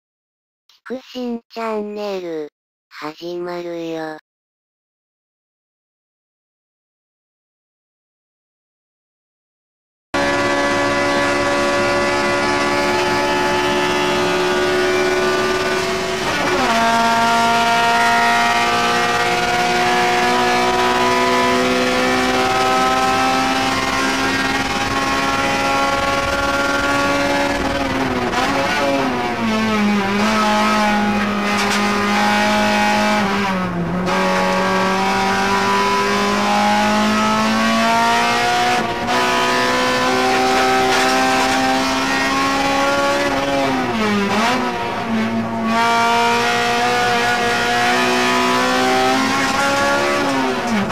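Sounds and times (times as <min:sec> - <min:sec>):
race car engine at full throttle: 0:10.2 - 0:50.9.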